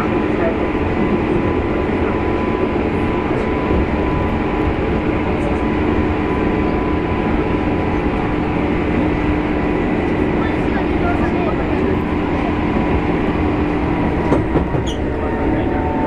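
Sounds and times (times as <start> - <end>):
steady high whine: 0.0 - 16.0
train wheels rumbling: 0.0 - 16.0.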